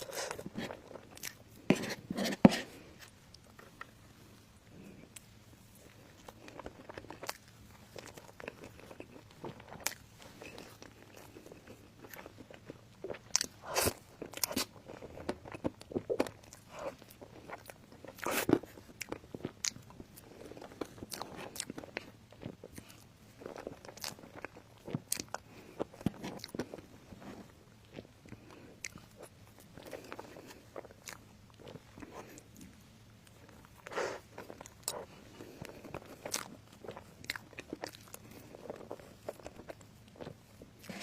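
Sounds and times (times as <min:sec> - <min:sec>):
person chewing crunchy food: 0:00.0 - 0:41.0.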